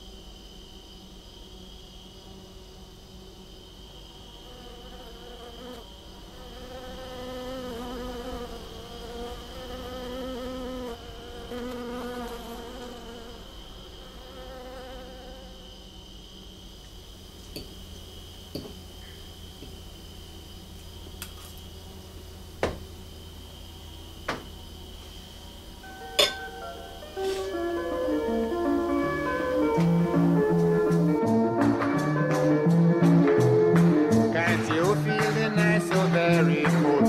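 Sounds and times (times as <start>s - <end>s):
high insect trill: 0.0s - 37.0s
honeybees buzzing: 0.0s - 37.0s.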